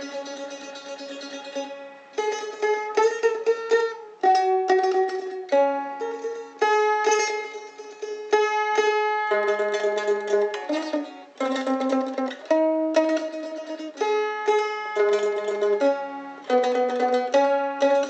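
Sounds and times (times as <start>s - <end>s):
mandolin melody: 0.0s - 18.0s.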